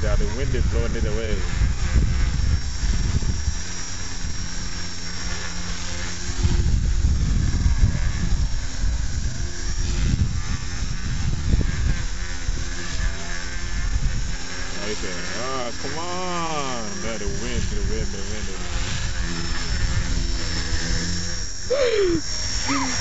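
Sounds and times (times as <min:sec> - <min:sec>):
wind rumble on microphone: 0:00.0 - 0:16.0, 0:16.7 - 0:23.0
electric motor whine: 0:00.0 - 0:23.0
rotor hum: 0:00.0 - 0:23.0.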